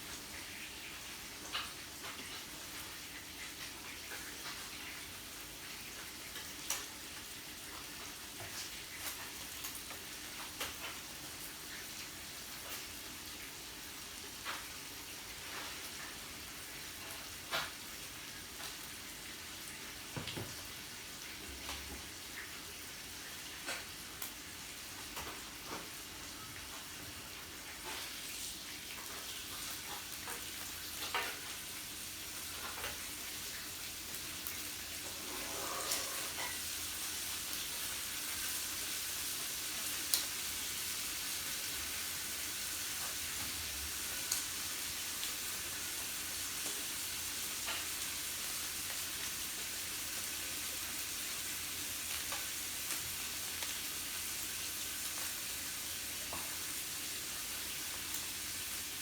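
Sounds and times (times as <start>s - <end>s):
meat sizzling on a grill: 0.0s - 59.0s.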